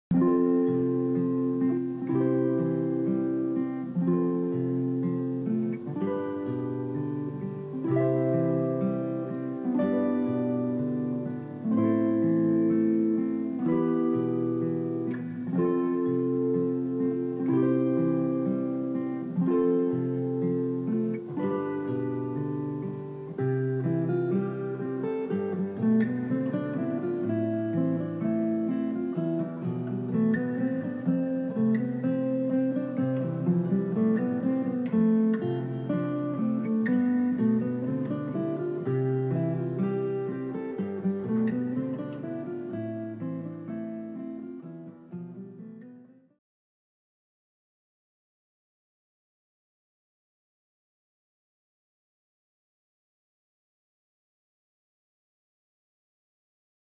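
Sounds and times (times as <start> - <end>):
acoustic guitar playing chords: 0.0 - 46.4.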